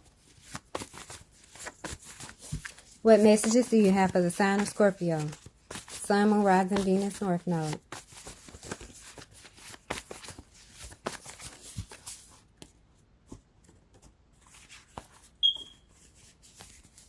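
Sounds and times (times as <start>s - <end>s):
cards being shuffled: 0.2s - 15.3s, 15.9s - 17.0s.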